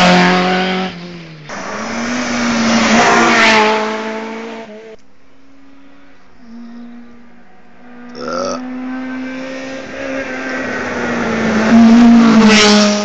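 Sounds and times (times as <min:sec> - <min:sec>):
rally car engine revving: 0:00.0 - 0:13.0
steady engine hum: 0:00.0 - 0:13.0.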